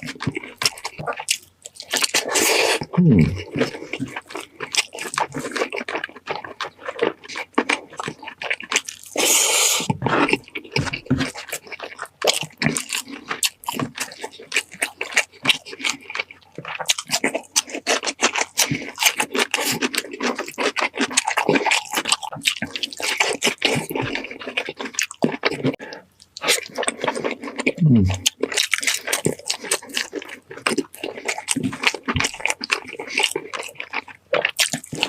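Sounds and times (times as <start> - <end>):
baby chewing and smacking: 0.0 - 35.0.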